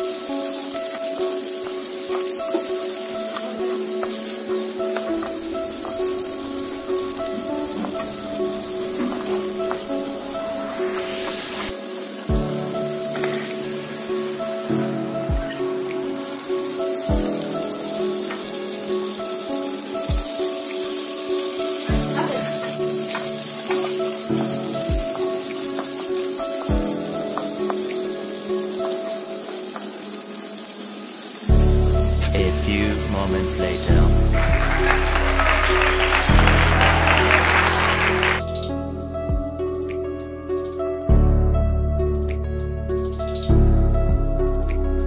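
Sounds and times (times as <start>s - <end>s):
food frying in a pan: 0.0s - 38.6s
instrumental music: 0.0s - 45.0s.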